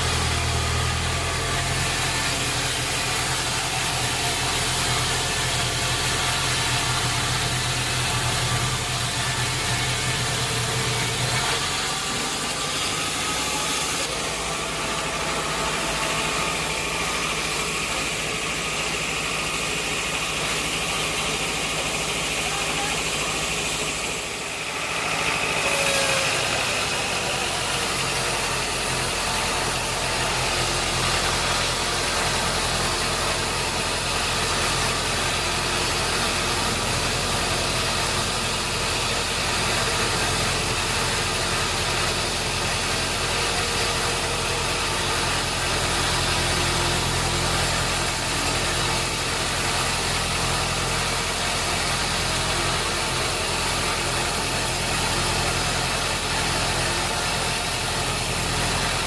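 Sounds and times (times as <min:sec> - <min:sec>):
sawmill machinery hiss: 0:00.0 - 0:59.0.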